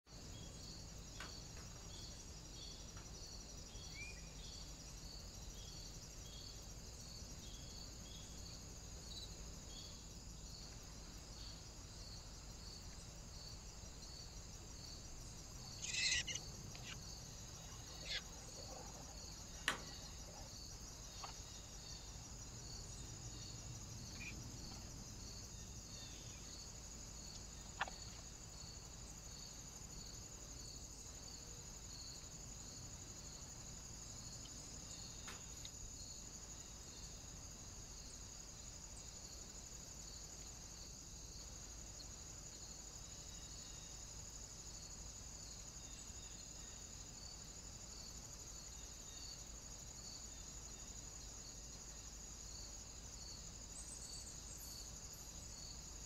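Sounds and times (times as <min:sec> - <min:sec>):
crickets chirping: 0:00.1 - 0:56.0.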